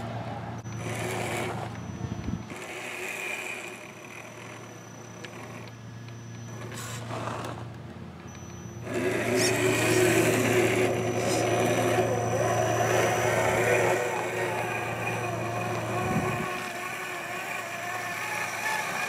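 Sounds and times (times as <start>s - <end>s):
toy car electric motor whining: 0.6s - 7.7s, 8.3s - 19.0s.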